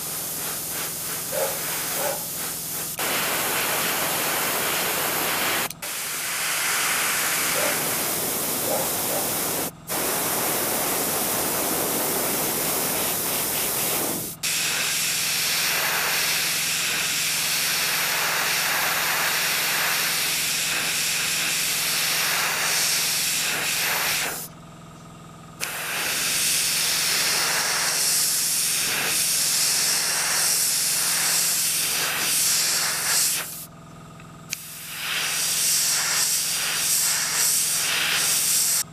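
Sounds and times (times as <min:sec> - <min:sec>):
airbrush hissing: 0:00.0 - 0:24.5, 0:25.6 - 0:33.7, 0:34.5 - 0:38.9.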